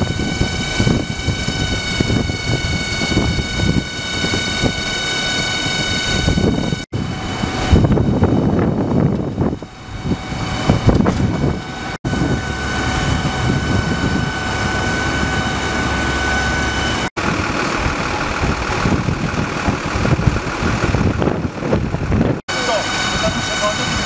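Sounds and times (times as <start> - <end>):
diesel engine idling: 0.0 - 24.0
thin steady whine: 0.0 - 24.0.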